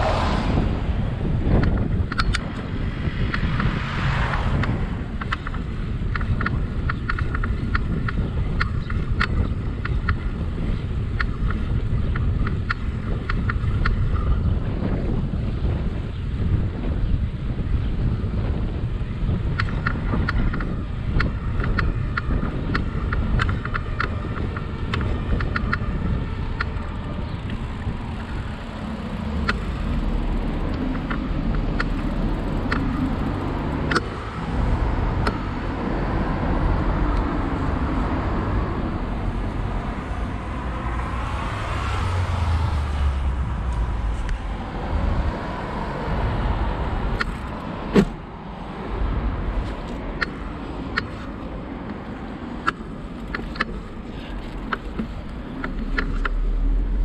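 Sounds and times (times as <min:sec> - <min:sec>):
bicycle tyres on path: 0:00.0 - 0:57.0
wind rumble on microphone: 0:00.0 - 0:57.0
bike clicks and rattles: 0:01.0 - 0:41.3, 0:43.4 - 0:57.0.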